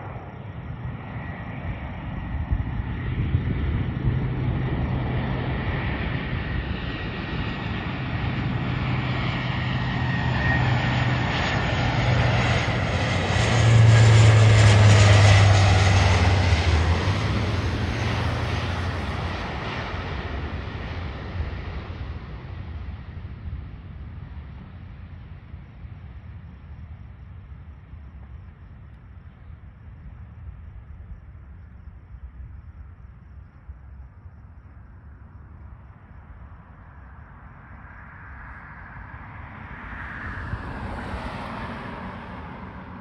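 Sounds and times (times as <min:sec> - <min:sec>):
propeller aircraft flying overhead: 0:00.0 - 0:43.0.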